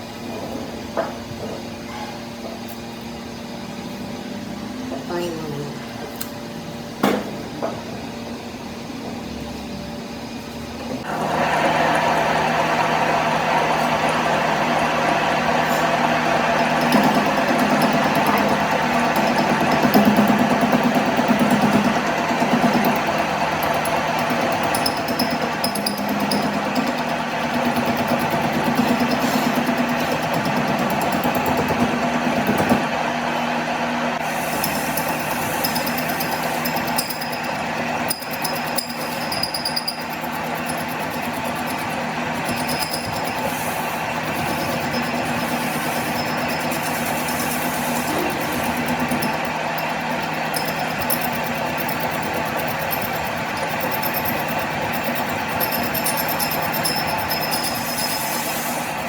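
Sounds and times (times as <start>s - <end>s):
steady machine hum: 2.9s - 59.0s
louder machine running: 11.0s - 59.0s.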